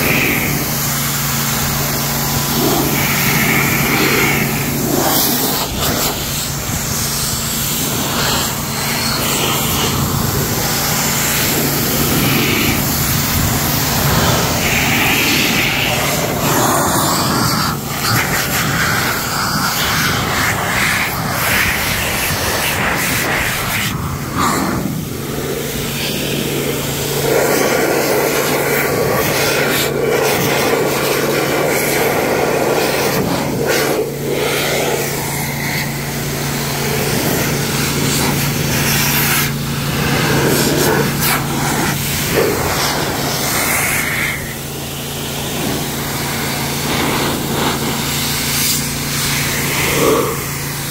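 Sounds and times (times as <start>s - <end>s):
blower air rushing: 0.0s - 50.9s
low motor hum: 0.0s - 50.9s.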